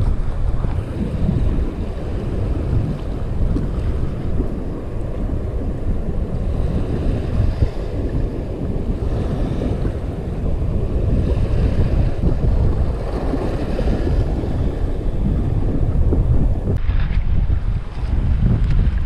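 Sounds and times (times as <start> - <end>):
surf washing over rocks: 0.0 - 19.0
wind buffeting microphone: 0.0 - 19.0.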